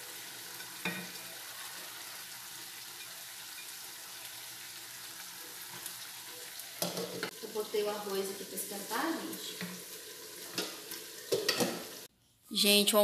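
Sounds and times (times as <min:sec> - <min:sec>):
food sizzling in pans: 0:00.0 - 0:12.1.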